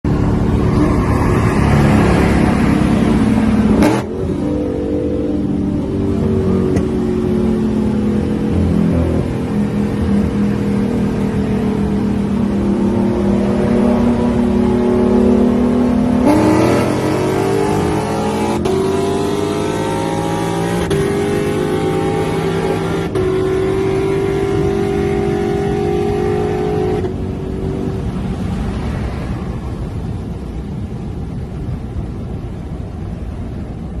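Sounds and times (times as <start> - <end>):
car engines accelerating: 0.0 - 32.3.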